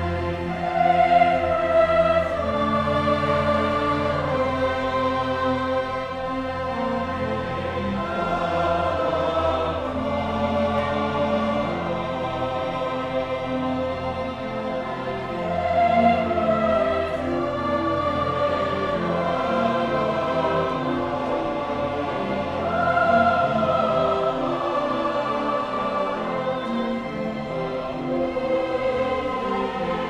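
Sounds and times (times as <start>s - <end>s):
large choir singing: 0.0s - 30.0s
string orchestra: 0.0s - 30.0s.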